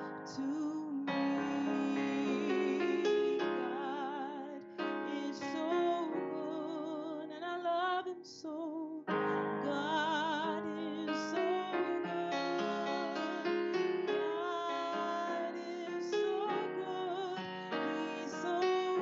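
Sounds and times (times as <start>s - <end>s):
electric keyboard piano chords: 0.0s - 8.1s, 9.1s - 19.0s.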